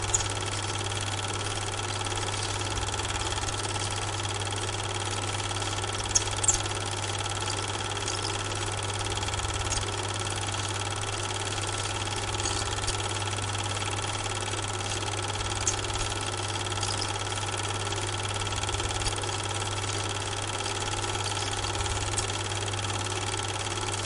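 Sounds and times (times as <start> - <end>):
film projector running: 0.0 - 24.0.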